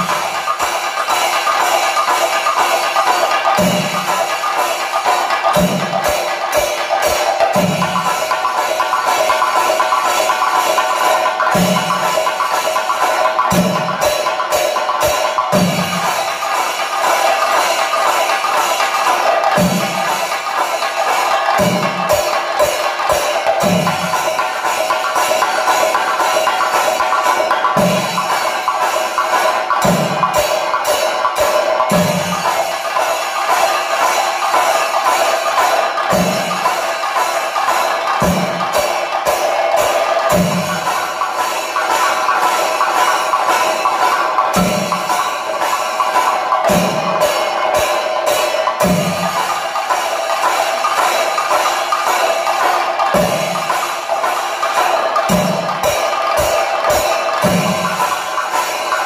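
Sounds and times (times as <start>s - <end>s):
fast drum roll with sticks: 0.0s - 59.0s.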